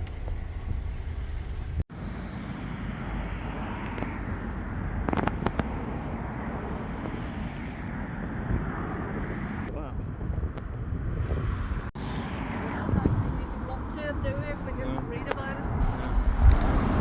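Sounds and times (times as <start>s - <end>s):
wind buffeting microphone: 2.8s - 17.0s.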